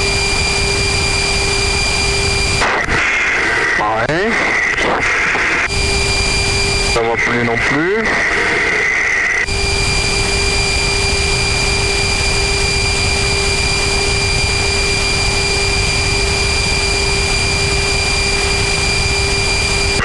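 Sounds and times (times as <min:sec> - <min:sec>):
jet cockpit rushing noise: 0:00.0 - 0:20.0.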